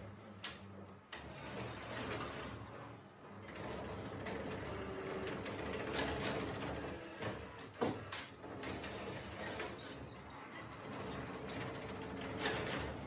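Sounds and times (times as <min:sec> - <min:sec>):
laundry-folding machine whirring: 0:00.0 - 0:13.0.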